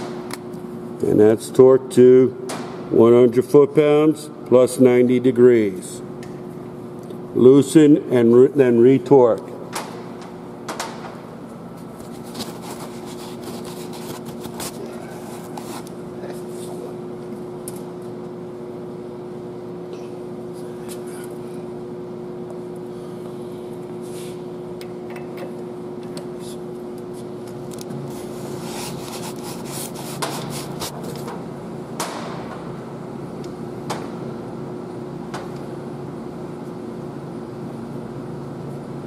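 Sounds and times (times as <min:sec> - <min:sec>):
workshop machine hum: 0:00.0 - 0:39.0.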